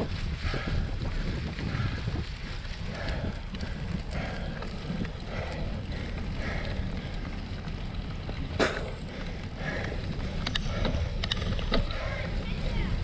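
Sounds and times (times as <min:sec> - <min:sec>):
bike rattling and clicking: 0:00.0 - 0:13.0
wind rumbling on microphone: 0:00.0 - 0:13.0.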